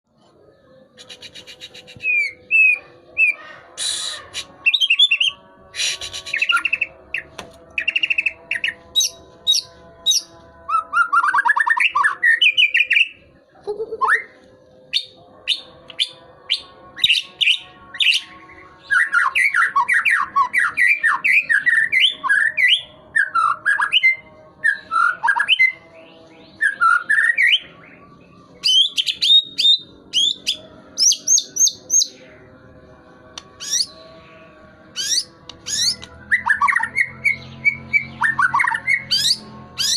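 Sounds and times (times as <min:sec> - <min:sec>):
songbird whistling and trilling: 0:01.0 - 0:13.2, 0:14.9 - 0:25.8, 0:26.5 - 0:32.2, 0:33.5 - 0:34.0, 0:34.9 - 0:39.9.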